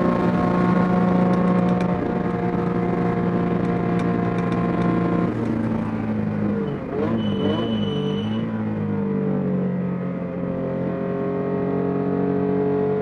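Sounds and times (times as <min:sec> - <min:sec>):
race car engine from cockpit: 0:00.0 - 0:13.0.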